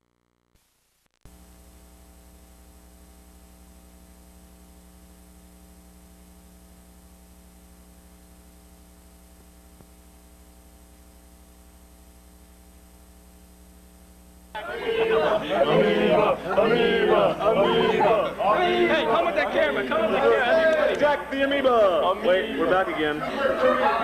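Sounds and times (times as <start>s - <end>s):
low electrical hum and buzz: 0.0s - 24.0s
tape hiss: 0.0s - 24.0s.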